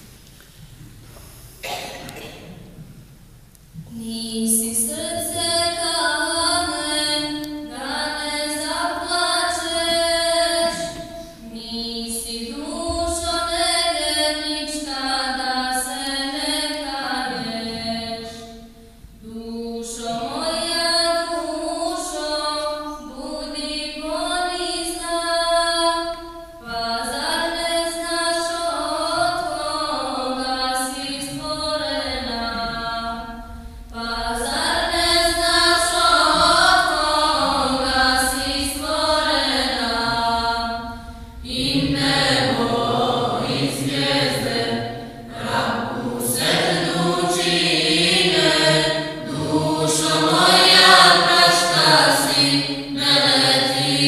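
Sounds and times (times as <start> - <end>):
choir singing a cappella: 3.8 - 54.0.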